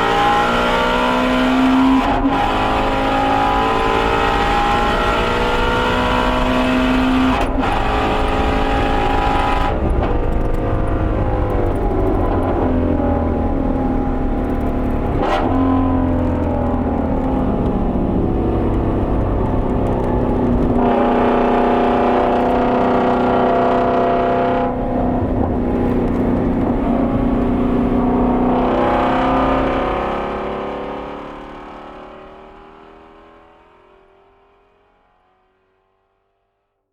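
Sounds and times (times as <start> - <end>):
car engine running hard: 0.0 - 32.0.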